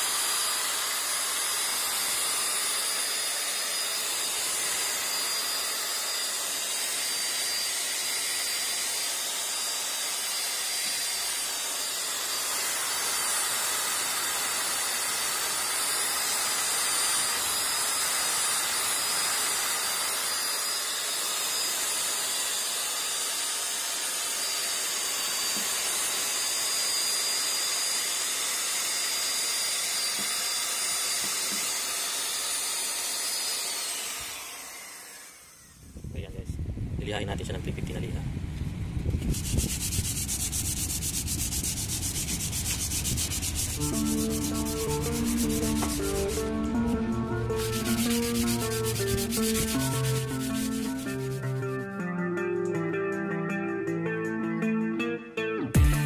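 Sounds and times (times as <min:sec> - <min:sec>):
electric drill whining: 0:00.0 - 0:36.4, 0:39.1 - 0:52.0.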